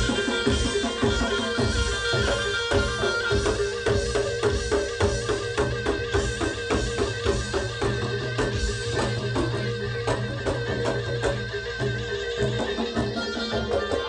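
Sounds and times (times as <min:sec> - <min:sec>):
gamelan drums beating: 0:00.0 - 0:14.0.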